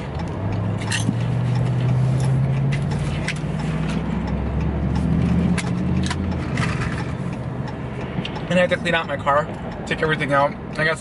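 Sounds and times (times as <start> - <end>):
car engine hum while driving: 0.0 - 11.0.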